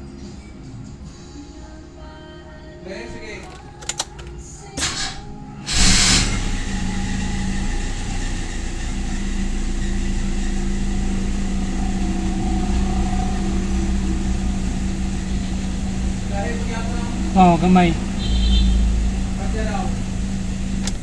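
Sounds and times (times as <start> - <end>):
pickup engine idling: 3.2 - 21.0.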